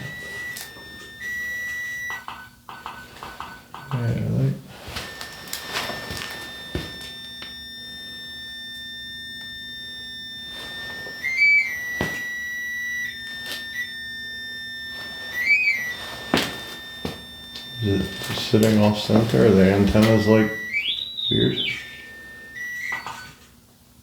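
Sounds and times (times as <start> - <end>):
high electronic alarm tone: 0.0 - 23.4.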